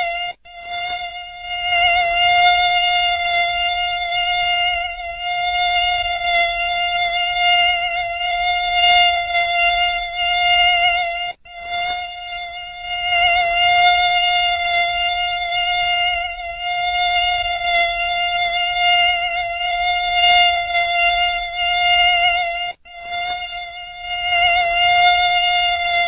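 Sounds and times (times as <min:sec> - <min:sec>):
mosquito buzzing: 0:00.0 - 0:26.0.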